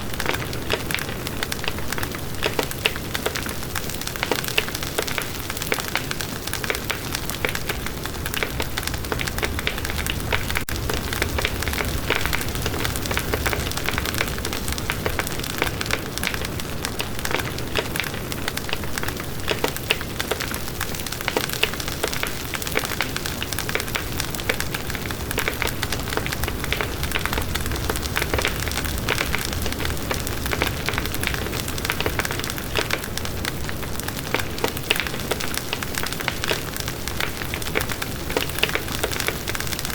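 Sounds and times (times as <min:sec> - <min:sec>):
wood crackling in a campfire: 0:00.0 - 0:39.9
low rumble of flames: 0:00.1 - 0:39.9.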